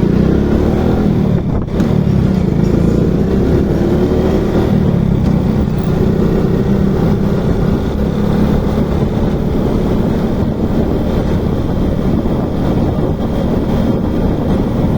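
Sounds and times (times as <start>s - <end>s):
motorcycle engine running: 0.0s - 14.9s
wind rushing over microphone: 0.0s - 14.9s.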